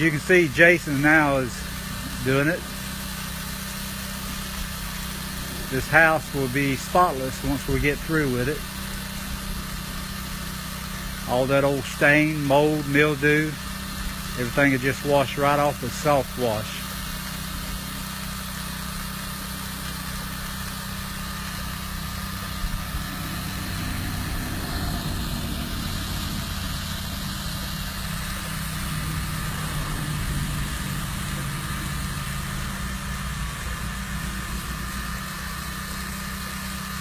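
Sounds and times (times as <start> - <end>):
pump engine running steadily: 0.0 - 37.0.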